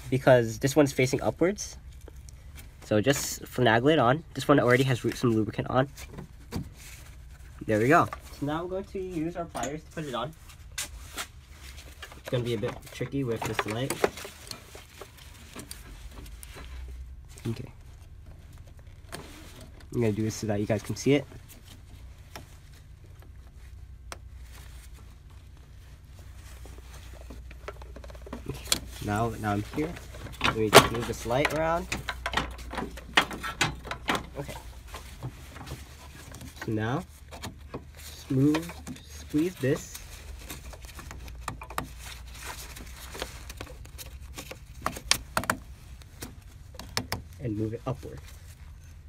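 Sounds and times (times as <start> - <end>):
low background hum: 0.0 - 49.0
light clicks and handling noises: 4.4 - 49.0.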